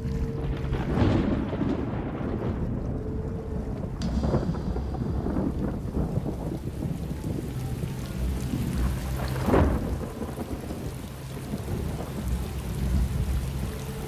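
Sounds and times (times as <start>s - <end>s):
deep steady rumble: 0.0s - 14.0s
heavy rain splashing into water: 0.0s - 14.0s.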